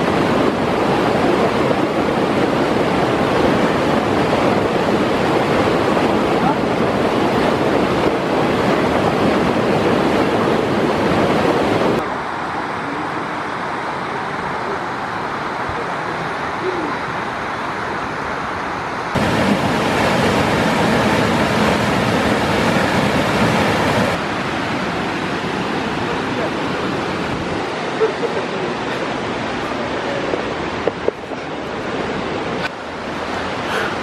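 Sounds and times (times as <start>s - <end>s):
waterfall rushing water: 0.0s - 34.0s.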